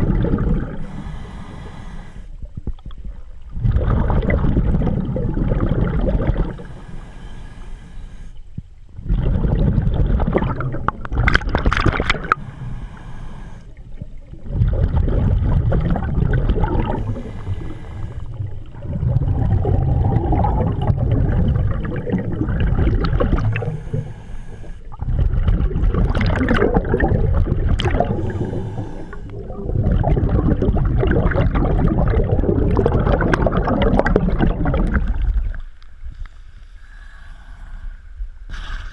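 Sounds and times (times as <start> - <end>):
diver's bubbles gurgling: 0.0 - 1.2, 2.5 - 6.9, 9.0 - 12.6, 13.3 - 35.7.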